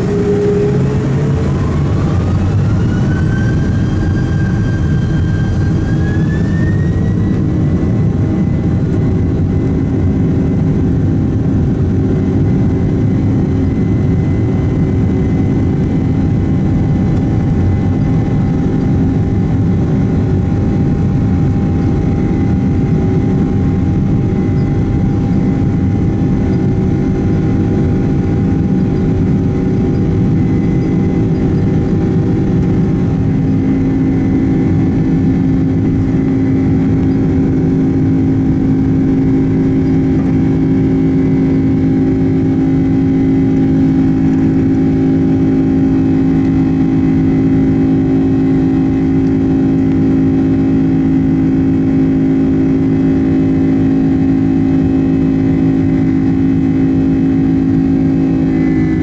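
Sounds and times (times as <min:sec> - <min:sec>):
jet engine roar from cabin: 0:00.0 - 0:59.0.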